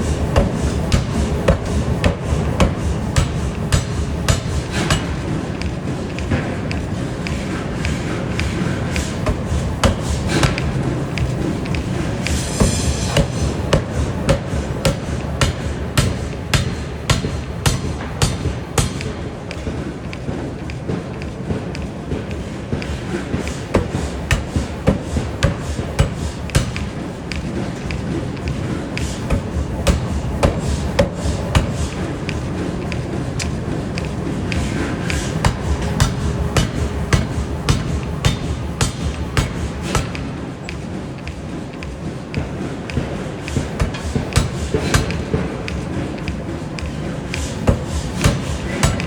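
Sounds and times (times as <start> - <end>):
power hammer striking: 0.0 - 19.6, 22.8 - 40.4, 42.9 - 49.0.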